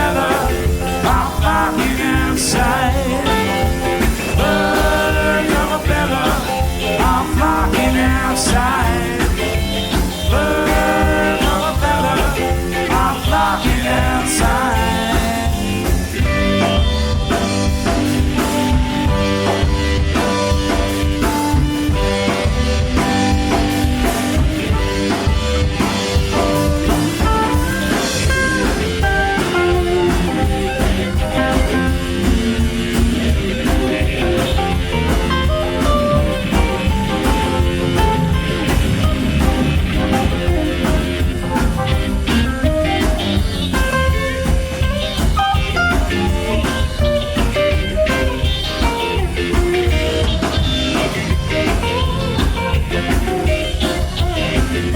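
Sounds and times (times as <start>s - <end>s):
live rock band instrumental: 0.0s - 54.9s.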